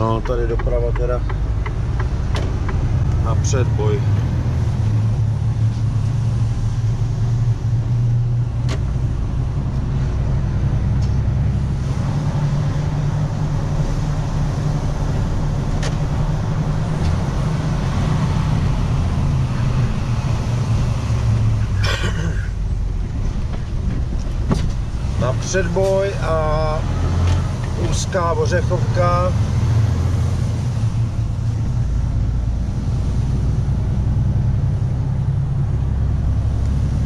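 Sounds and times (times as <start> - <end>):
road noise: 0.0 - 37.0
vehicle engine hum: 0.0 - 37.0.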